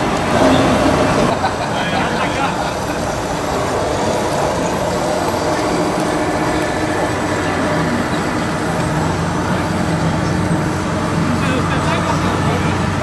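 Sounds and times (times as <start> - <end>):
model machine engine: 0.0 - 13.0
stream water rushing: 0.0 - 13.0.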